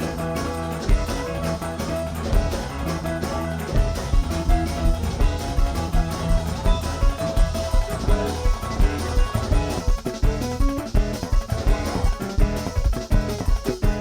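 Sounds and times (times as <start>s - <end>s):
drum beat: 0.0s - 14.0s
guitar and bass music: 0.0s - 14.0s.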